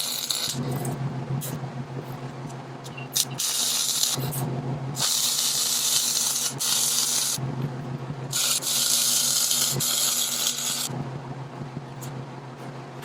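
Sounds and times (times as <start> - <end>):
welder arc sizzling and crackling: 0.0 - 11.1
steady low hum: 0.0 - 13.0.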